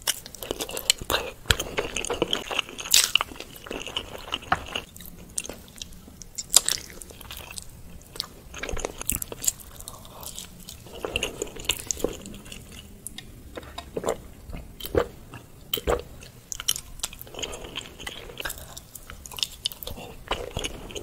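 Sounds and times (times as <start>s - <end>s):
chewing and biting eggs: 0.0s - 21.0s.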